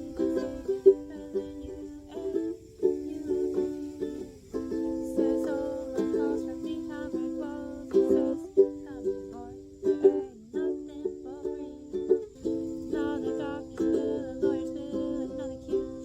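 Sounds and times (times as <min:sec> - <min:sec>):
ukulele strumming: 0:00.0 - 0:16.0.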